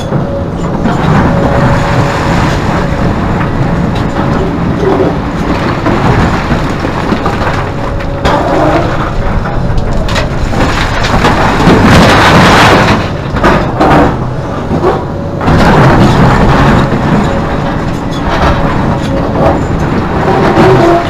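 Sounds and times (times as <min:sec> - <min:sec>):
hydraulic excavator working: 0:00.0 - 0:21.0.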